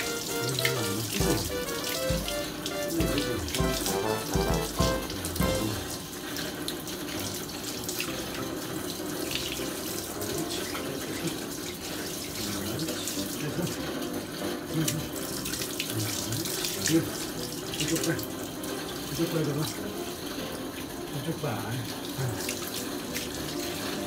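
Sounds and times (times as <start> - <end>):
hose water splashing: 0.0 - 20.5, 21.2 - 24.0.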